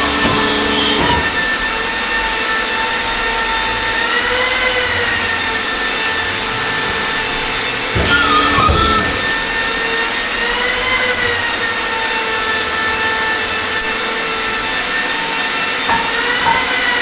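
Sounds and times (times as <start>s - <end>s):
workshop machine whining: 0.0s - 17.0s.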